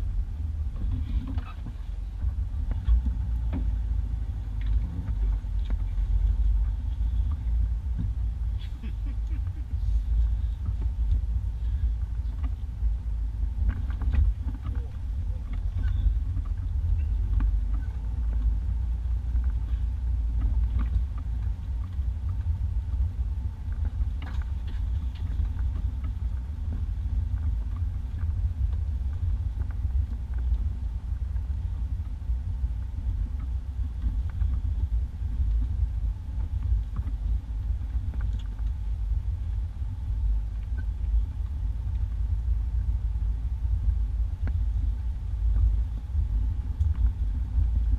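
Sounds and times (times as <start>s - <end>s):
engine and road rumble: 0.0s - 47.9s.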